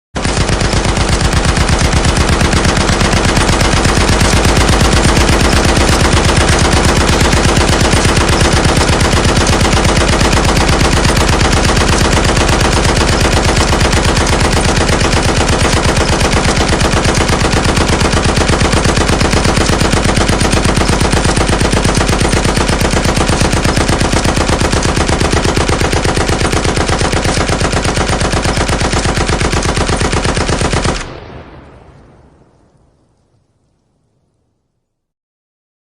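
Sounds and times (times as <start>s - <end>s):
machine gun automatic fire: 0.2s - 32.1s.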